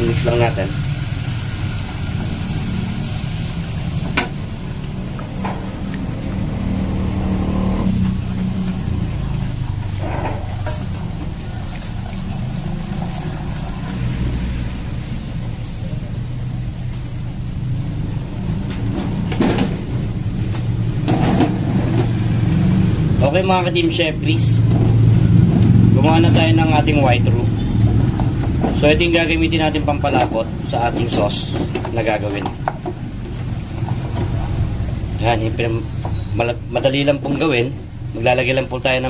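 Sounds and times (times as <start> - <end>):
low mechanical rumble: 0.0 - 31.8.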